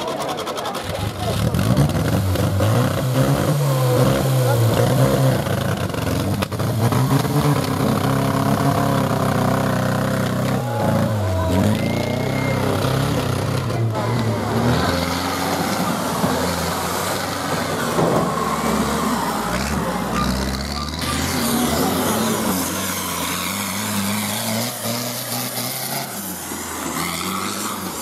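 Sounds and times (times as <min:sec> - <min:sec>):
tractor engines revving hard: 0:00.0 - 0:28.0.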